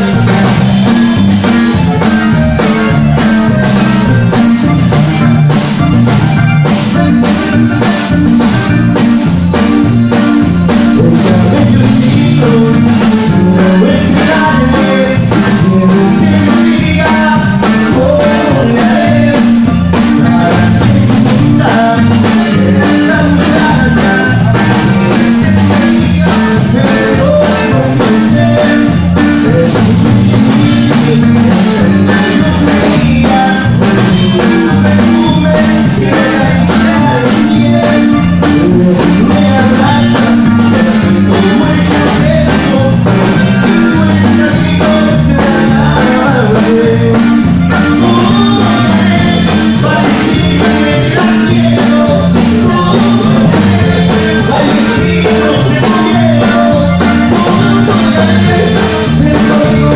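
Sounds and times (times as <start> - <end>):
man singing: 0.0 - 5.3, 10.1 - 59.9
guitar strummed in rhythm: 0.0 - 59.9
steady drum beat: 0.0 - 59.9.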